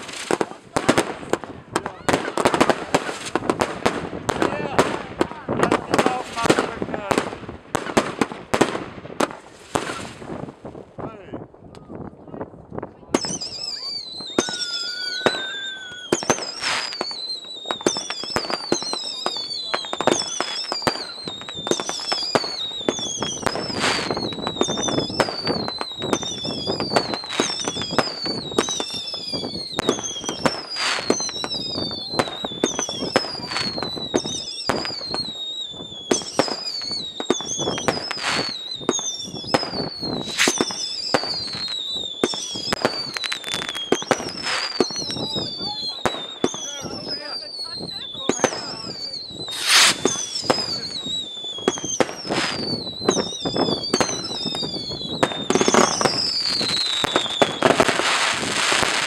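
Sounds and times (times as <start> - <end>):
fireworks whistling: 0.0 - 10.4, 13.1 - 59.0
fireworks bangs and cracks: 0.0 - 59.0.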